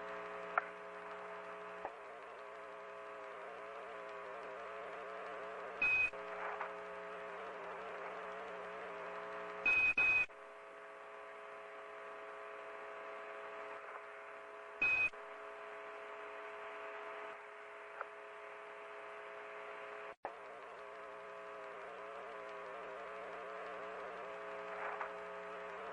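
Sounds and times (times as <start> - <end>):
buzzing hum: 0.0 - 25.9
radio channel hiss: 0.0 - 25.9.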